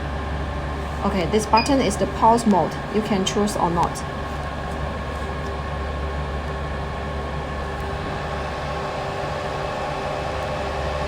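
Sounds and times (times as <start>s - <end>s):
cooling fans humming: 0.0s - 11.0s.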